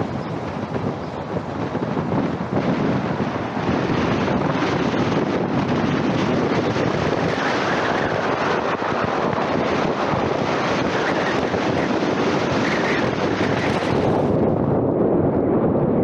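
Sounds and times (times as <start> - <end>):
car road and tyre noise: 0.0 - 16.0
wind rushing over microphone: 0.0 - 16.0.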